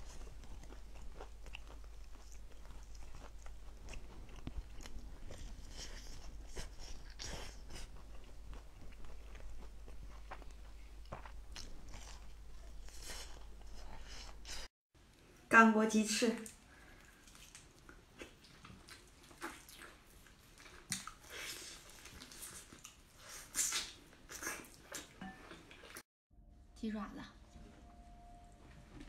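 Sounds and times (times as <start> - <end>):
chewing crunchy fried chicken: 0.0 - 14.6, 16.6 - 26.0.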